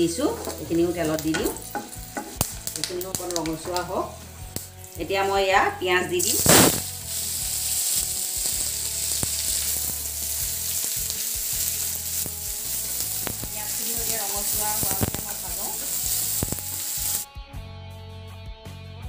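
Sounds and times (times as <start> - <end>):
onions sizzling in hot oil: 0.0 - 17.2.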